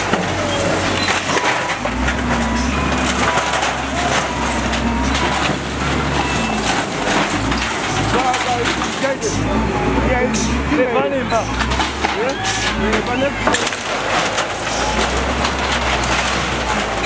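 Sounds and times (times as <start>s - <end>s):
walls and sheet metal crashing: 0.0s - 9.6s, 11.3s - 17.0s
low diesel engine hum: 0.0s - 17.0s.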